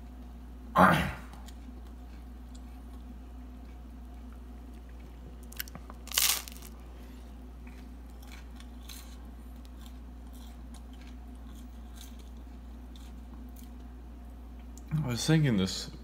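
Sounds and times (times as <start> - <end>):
crunchy bread chewing: 1.3 - 14.8.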